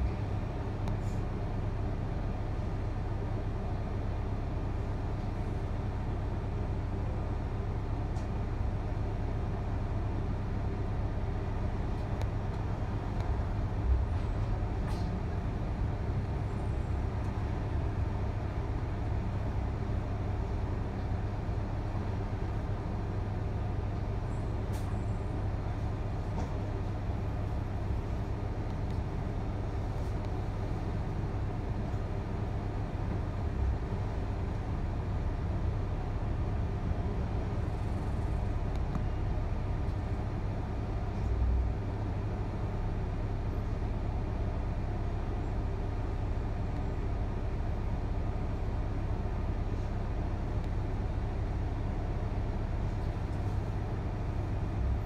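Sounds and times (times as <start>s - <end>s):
bus engine hum: 0.0s - 55.0s
road noise: 0.0s - 55.0s.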